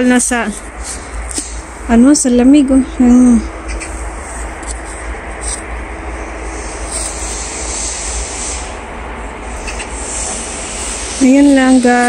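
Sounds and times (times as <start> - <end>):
faint low hum: 0.0 - 12.0
outdoor rumble and hiss: 0.0 - 12.0.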